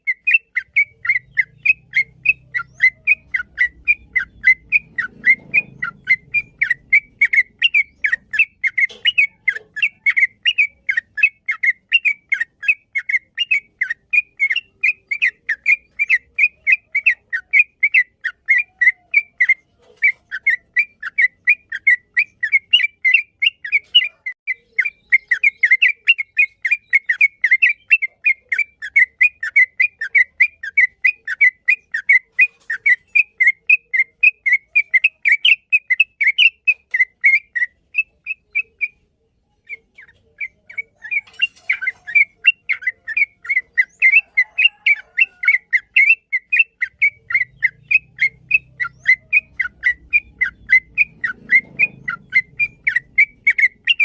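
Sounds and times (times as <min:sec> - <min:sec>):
bird singing whistled chirps: 0:00.0 - 0:54.0.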